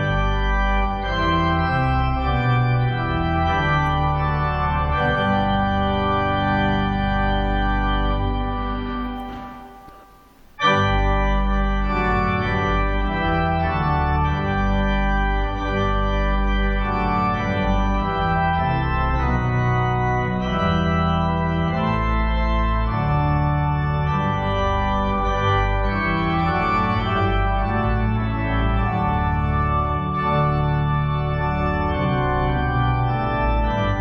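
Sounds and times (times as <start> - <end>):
organ playing sustained chords: 0.0 - 34.0.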